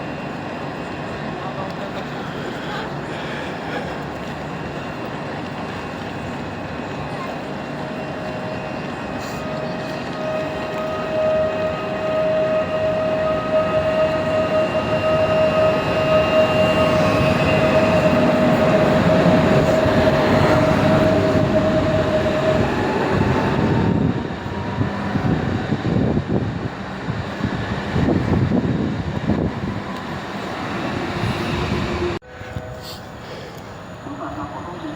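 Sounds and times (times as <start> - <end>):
train rolling noise: 0.0 - 34.9.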